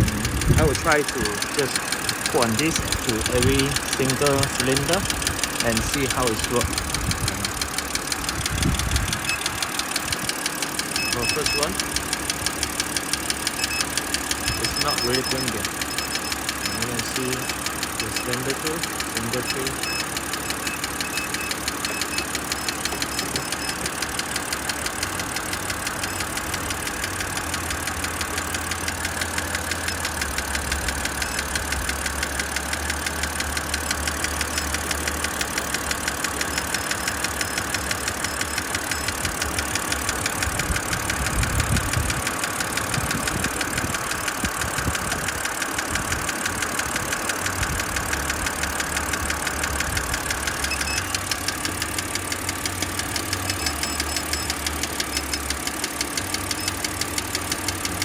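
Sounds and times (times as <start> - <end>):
car engine idling with ticking: 0.0 - 58.0.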